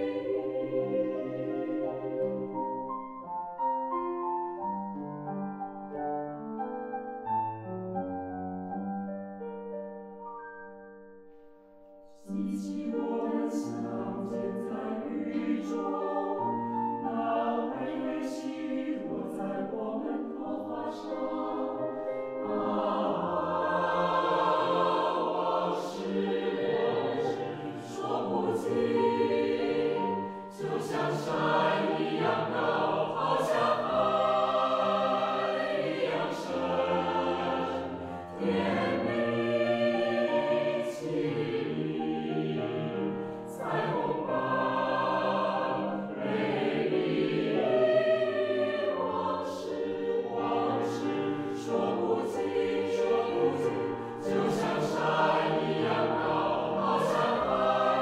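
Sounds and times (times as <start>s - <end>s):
choir singing: 0.0s - 5.0s, 12.0s - 58.0s
piano accompaniment: 0.0s - 58.0s.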